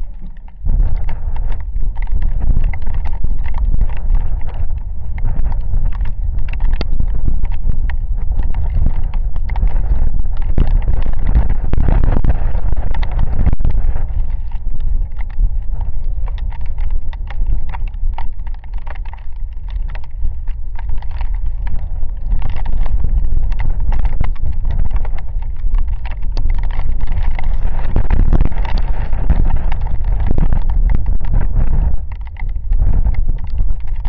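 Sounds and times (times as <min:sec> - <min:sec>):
raindrops tapping: 0:00.0 - 0:34.0
wind buffeting microphone: 0:00.0 - 0:34.0.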